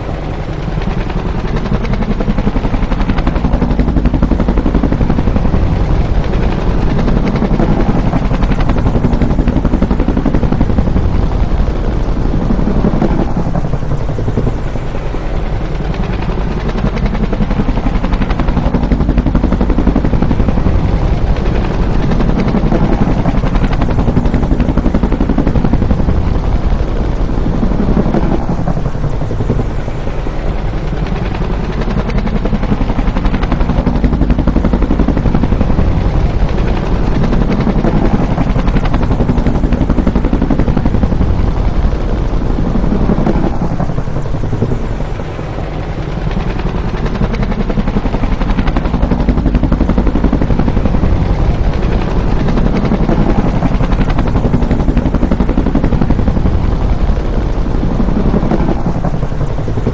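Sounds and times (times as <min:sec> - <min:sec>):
helicopter rotor beating: 0:00.0 - 0:59.9.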